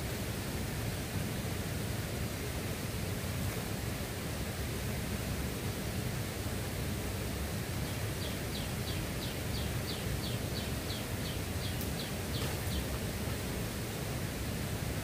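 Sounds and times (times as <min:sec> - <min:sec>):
outdoor hiss and rumble: 0:00.0 - 0:15.0.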